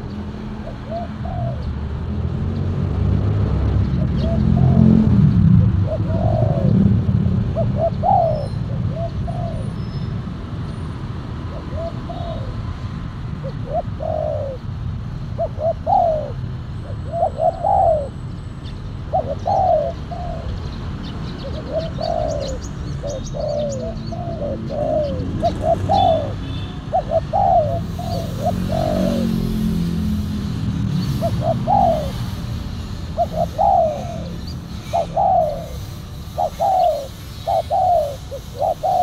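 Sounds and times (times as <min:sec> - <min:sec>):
dove cooing: 0:00.0 - 0:02.0, 0:04.0 - 0:09.8, 0:11.4 - 0:18.2, 0:18.9 - 0:39.0.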